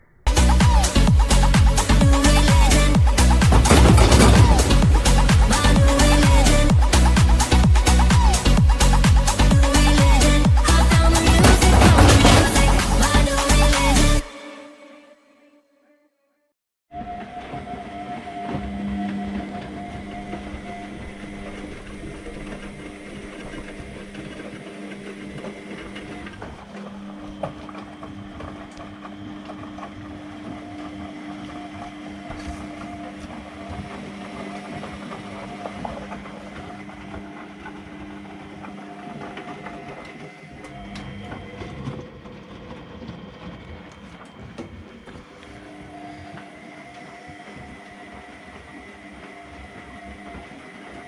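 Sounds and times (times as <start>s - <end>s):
washing machine running: 0.3s - 14.3s, 17.2s - 51.0s.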